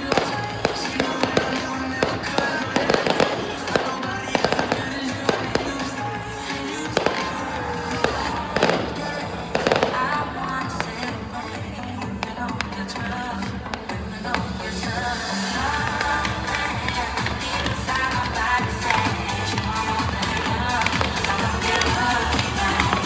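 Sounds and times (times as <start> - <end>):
fireworks banging and crackling: 0.0 - 23.0
loud music: 0.0 - 23.0.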